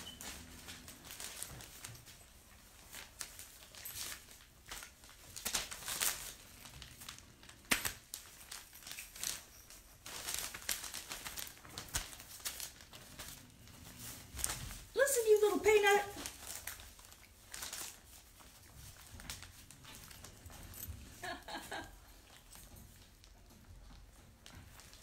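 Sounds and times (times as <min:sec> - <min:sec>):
crinkling and rustling: 0:00.0 - 0:25.0.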